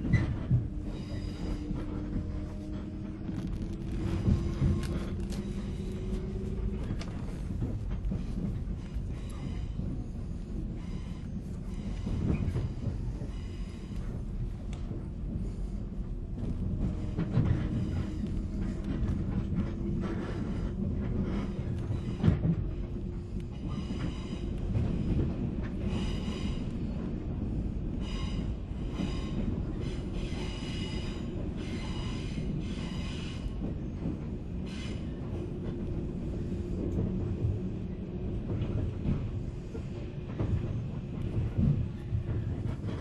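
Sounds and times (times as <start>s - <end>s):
train wheels and motors rumbling: 0.0s - 43.0s.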